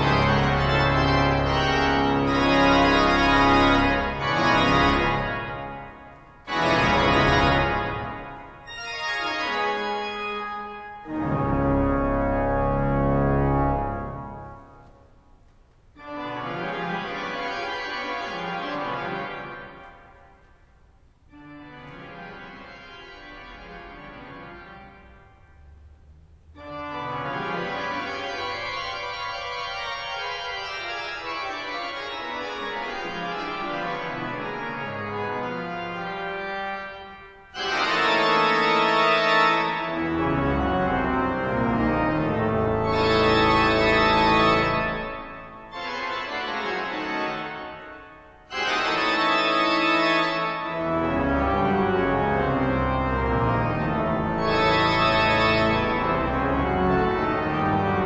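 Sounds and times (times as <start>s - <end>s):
pipe organ chords: 0.0s - 58.0s.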